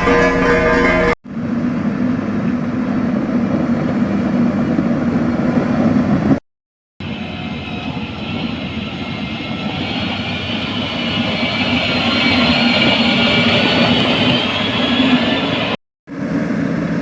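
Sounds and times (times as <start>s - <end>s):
machinery high whine: 0.0s - 4.1s, 7.0s - 17.0s.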